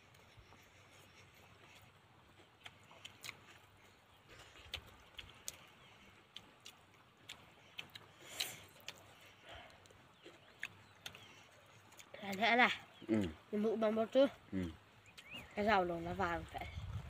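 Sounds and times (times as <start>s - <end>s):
mouth clicks and smacks eating: 0.1s - 13.4s, 14.5s - 15.5s.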